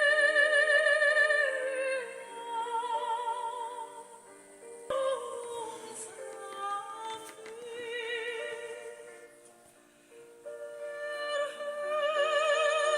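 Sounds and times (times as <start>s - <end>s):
slow music with vibrato notes: 0.0s - 12.9s.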